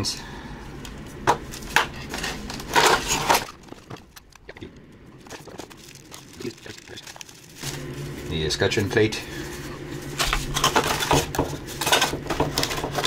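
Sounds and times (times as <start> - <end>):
plastic wrapping crinkling: 1.5 - 12.0.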